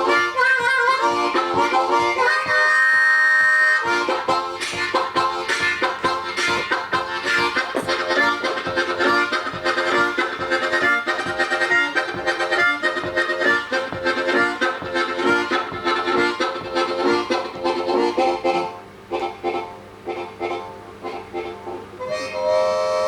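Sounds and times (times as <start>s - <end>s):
harmonica playing rhythmic chords: 0.0s - 23.0s.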